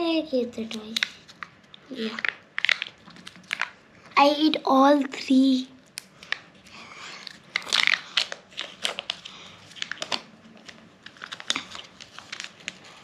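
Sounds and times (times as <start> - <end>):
plastic wrappers crinkling: 0.6 - 4.3, 5.4 - 13.0.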